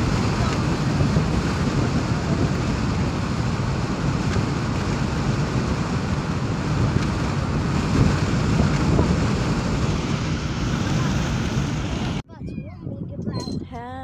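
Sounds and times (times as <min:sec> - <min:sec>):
wind and road noise: 0:00.0 - 0:14.0
wind buffeting microphone: 0:00.0 - 0:14.0.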